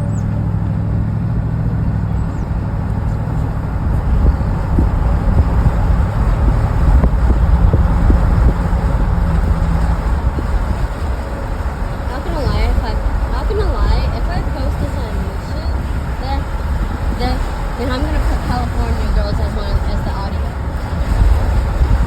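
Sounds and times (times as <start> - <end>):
car engine humming: 0.0 - 22.0
low rumble of road noise: 0.0 - 22.0.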